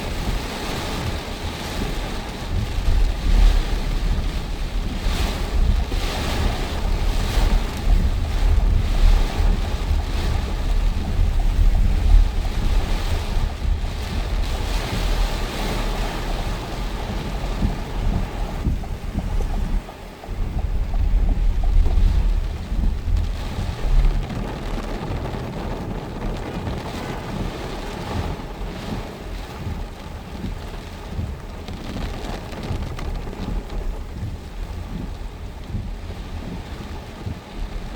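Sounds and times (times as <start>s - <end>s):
storm wind buffeting microphone: 0.0s - 37.9s.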